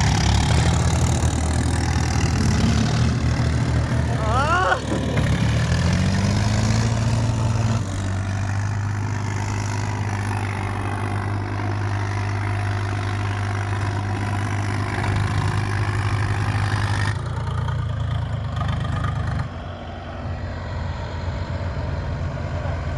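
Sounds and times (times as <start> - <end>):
tractor diesel engine: 0.0 - 22.9.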